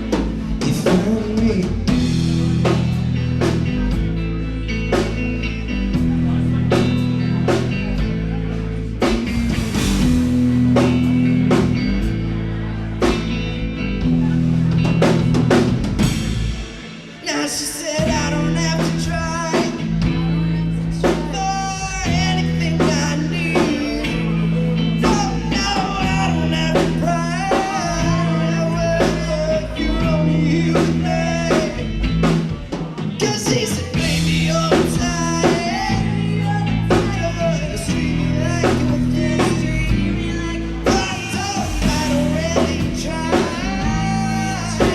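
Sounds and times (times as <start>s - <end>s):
live band playing: 0.0s - 44.9s.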